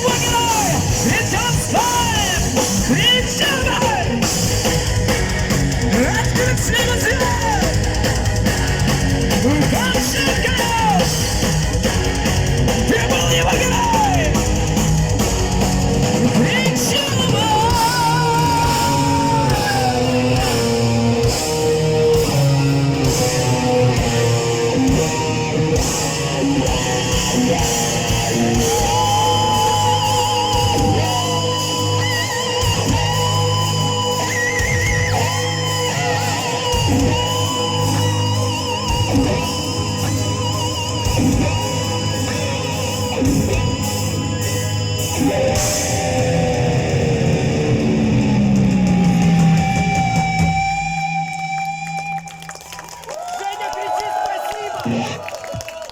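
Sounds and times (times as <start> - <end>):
lead electric guitar bent notes: 0.0 - 52.8
heavy metal band playing: 0.0 - 55.9.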